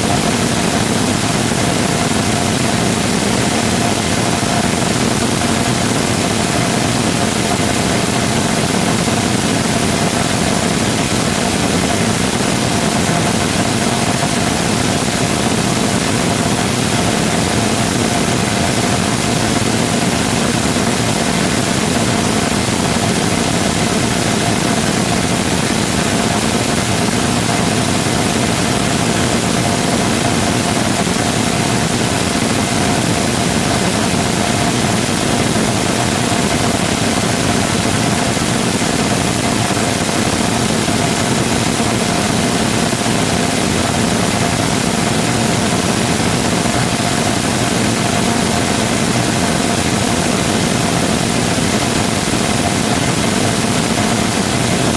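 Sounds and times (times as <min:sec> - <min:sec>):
faint steady whine: 0:00.0 - 0:54.9.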